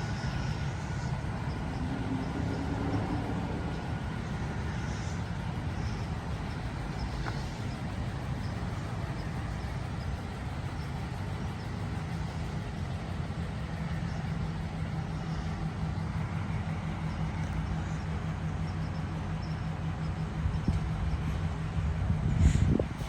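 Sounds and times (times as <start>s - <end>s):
pickup truck engine running: 0.0s - 23.0s.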